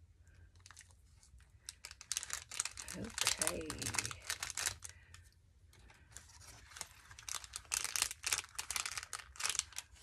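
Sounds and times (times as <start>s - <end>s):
craft materials crinkling and rustling: 0.4s - 10.0s.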